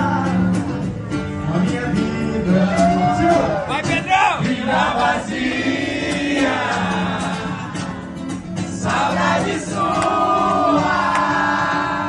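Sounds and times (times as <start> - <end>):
acoustic guitar: 0.0 - 12.0
voices singing along: 1.4 - 12.0.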